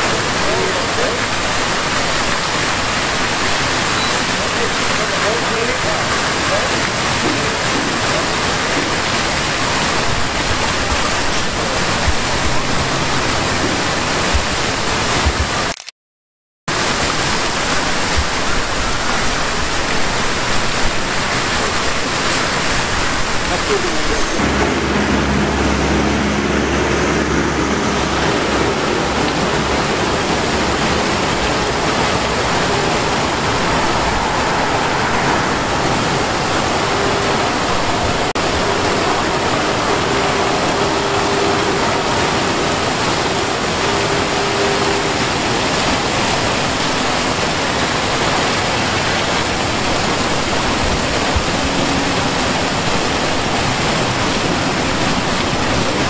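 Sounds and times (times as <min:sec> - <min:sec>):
fountain water splashing: 0:00.0 - 0:15.8, 0:16.7 - 0:56.0.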